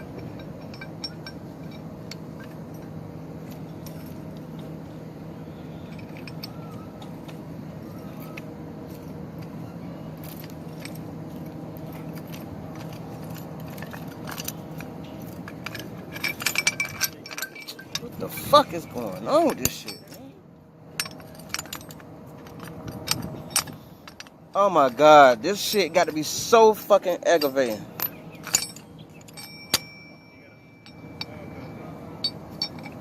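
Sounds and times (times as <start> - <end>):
metal tent parts clinking: 0.0 - 4.9, 5.7 - 9.6, 10.2 - 33.0
steady low hum: 0.0 - 33.0.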